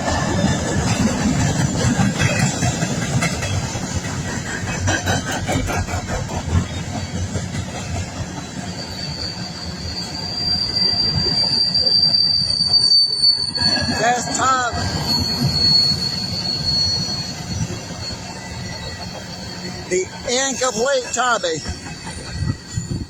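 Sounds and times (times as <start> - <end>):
train wheels clacking over rail joints: 0.0 - 10.2, 14.7 - 23.0
high wheel squeal: 0.0 - 23.0.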